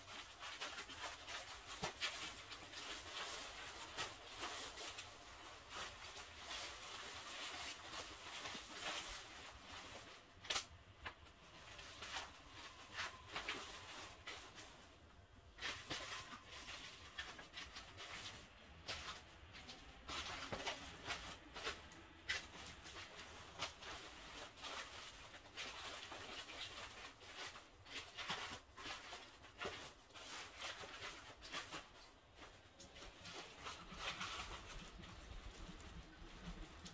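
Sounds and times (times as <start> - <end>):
nylon fabric rustling: 0.0 - 10.6, 11.2 - 36.9.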